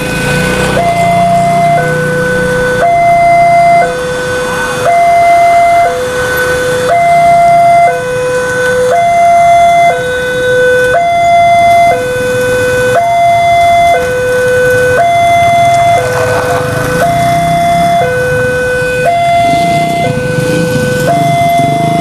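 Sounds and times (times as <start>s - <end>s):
level crossing two-tone alarm: 0.0s - 22.0s.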